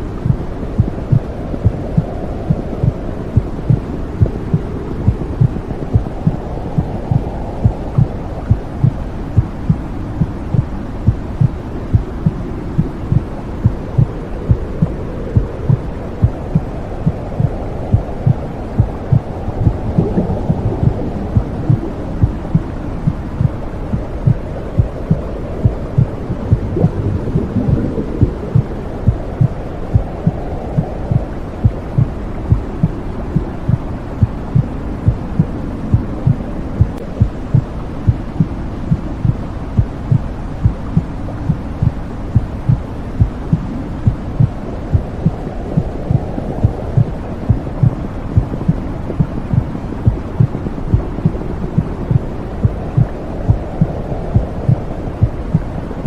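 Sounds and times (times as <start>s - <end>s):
muffled whooshing rush: 0.0s - 56.0s
heartbeat thumping: 0.2s - 55.7s.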